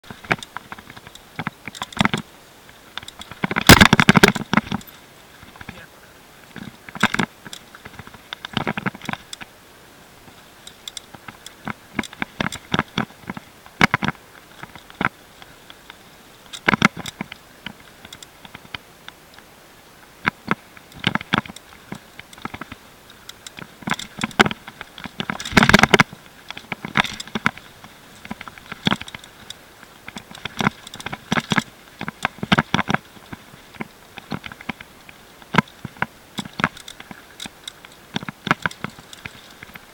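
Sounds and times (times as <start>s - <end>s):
bike rattling over rough trail: 0.0s - 39.9s.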